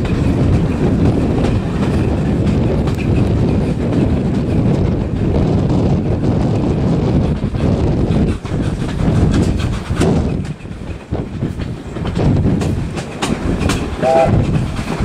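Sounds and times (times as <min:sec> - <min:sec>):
rumble of train coaches: 0:00.0 - 0:15.0
steam locomotive working: 0:00.0 - 0:15.0.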